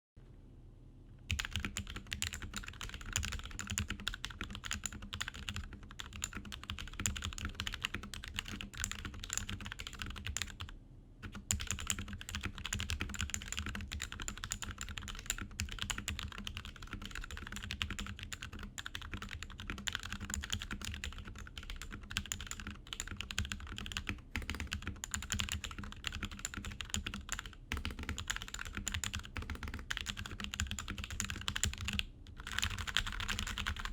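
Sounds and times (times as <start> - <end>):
mechanical keyboard typing: 1.3 - 33.9.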